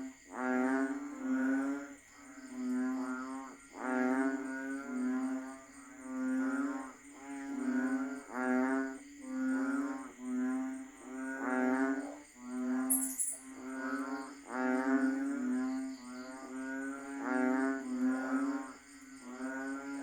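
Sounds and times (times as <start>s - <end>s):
frogs croaking in chorus: 0.0s - 20.0s.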